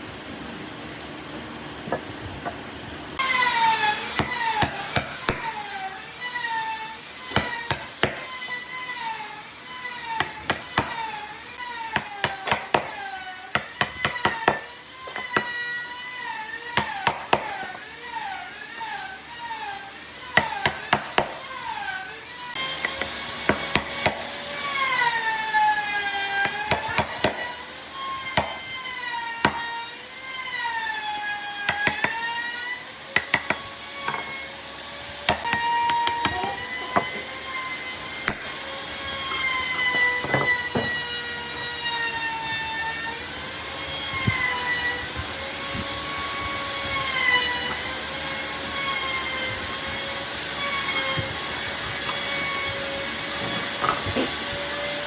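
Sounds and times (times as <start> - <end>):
power tool motor whining: 3.2 - 55.0.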